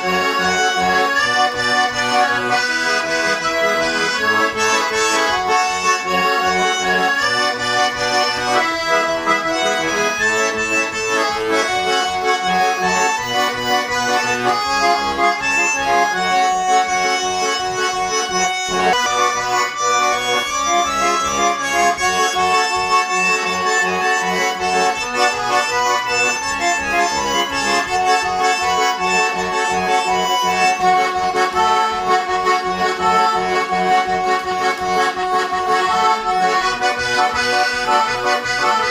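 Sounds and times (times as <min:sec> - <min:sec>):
button accordion tune: 0:00.0 - 0:38.9.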